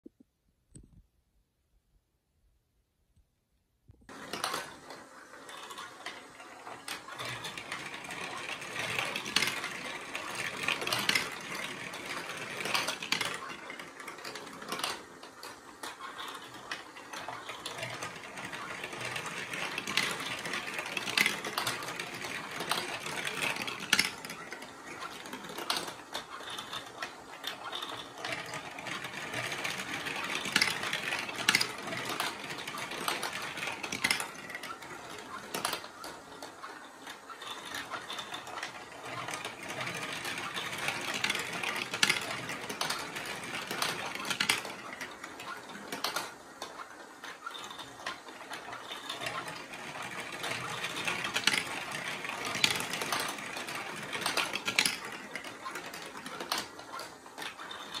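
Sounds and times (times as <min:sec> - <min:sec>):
marbles clicking on tracks: 0:04.1 - 0:58.0
marbles rattling through plastic track: 0:04.1 - 0:58.0.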